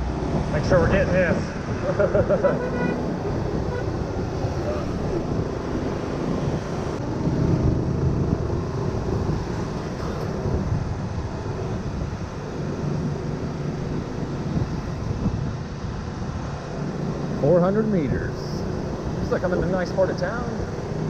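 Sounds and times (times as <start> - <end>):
wind on microphone: 0.0 - 17.4
road noise: 0.0 - 21.0.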